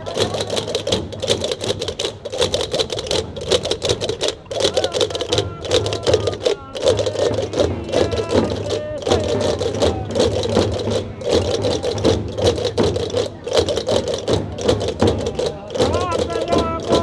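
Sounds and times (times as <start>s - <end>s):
drums beaten with sticks: 0.0s - 17.0s
wooden castanets clacking: 0.0s - 17.0s.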